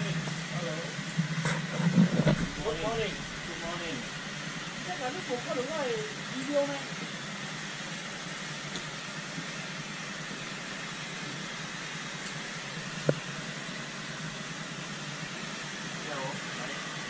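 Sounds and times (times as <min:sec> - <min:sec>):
machinery hum and hiss: 0:00.0 - 0:17.0.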